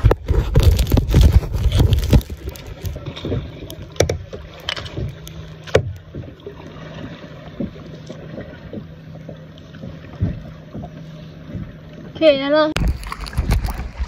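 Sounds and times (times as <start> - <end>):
paddle splashing in water: 0.0 - 11.8, 12.8 - 14.0.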